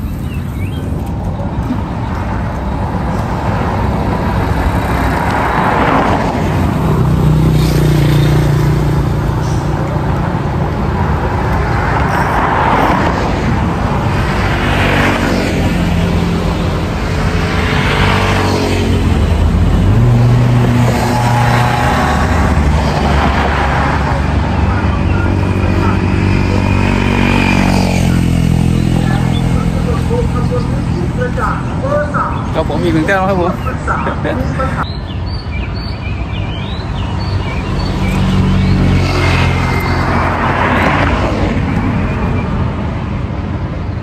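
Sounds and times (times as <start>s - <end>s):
steady low traffic rumble: 0.0s - 44.0s
vehicle engines passing: 0.0s - 44.0s.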